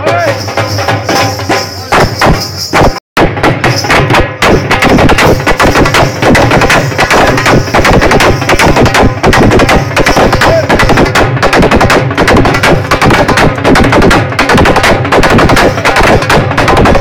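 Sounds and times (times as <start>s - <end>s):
distorted loud dance music: 1.9s - 17.0s.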